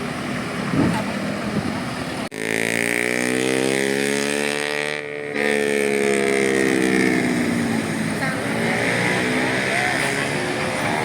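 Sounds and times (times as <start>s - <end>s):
bus diesel engine droning: 0.0s - 11.0s
road noise: 0.0s - 11.0s.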